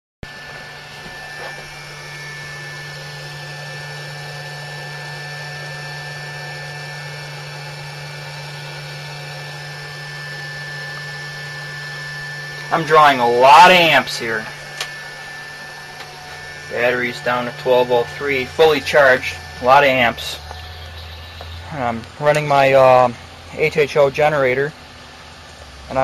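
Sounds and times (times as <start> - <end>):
electrical hum: 0.2 - 26.0
fan noise: 0.2 - 26.0
thin high whine: 0.2 - 26.0.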